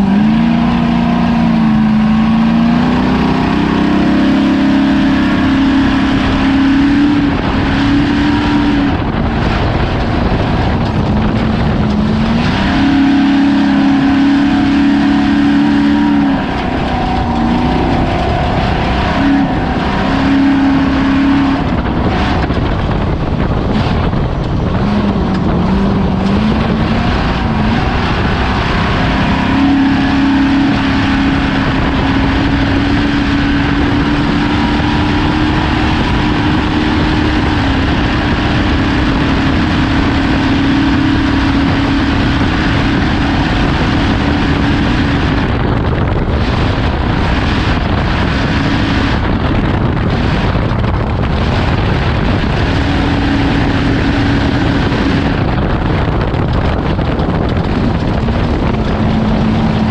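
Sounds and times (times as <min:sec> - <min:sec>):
ground rumble: 0:00.0 - 0:59.9
race vehicle engine: 0:00.0 - 0:59.9
wind noise on microphone: 0:00.0 - 0:59.9.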